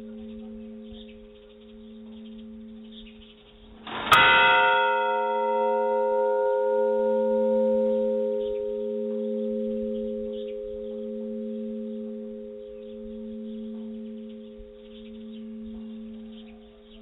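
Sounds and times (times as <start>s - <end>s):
large church bell ringing: 0.0s - 17.0s.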